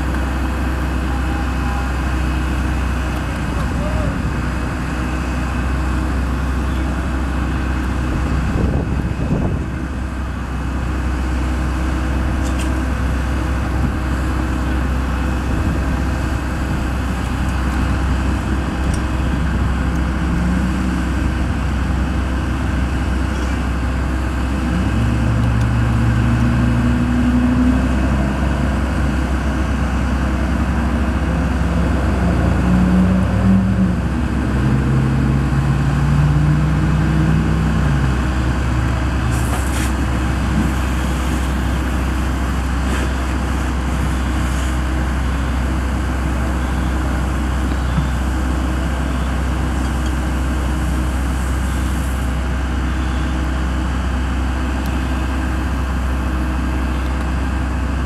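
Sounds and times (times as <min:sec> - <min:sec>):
low engine hum: 0:00.0 - 0:58.0
vehicles passing: 0:00.0 - 0:58.0.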